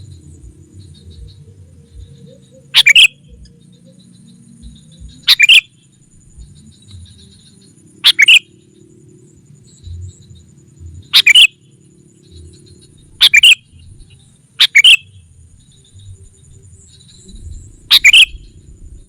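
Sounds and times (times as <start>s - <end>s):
bulbul chattering calls: 0.0s - 8.9s, 11.0s - 18.6s.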